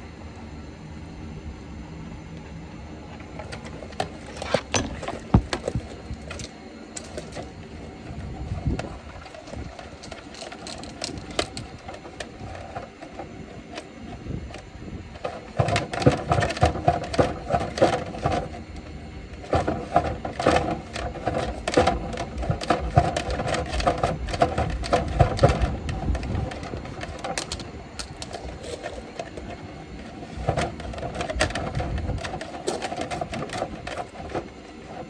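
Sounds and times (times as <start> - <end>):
brush rattling inside vent duct: 3.1 - 35.0.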